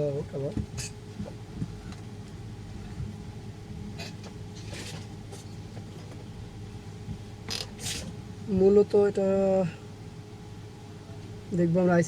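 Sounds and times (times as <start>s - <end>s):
amplifier electrical hum: 0.0s - 12.0s.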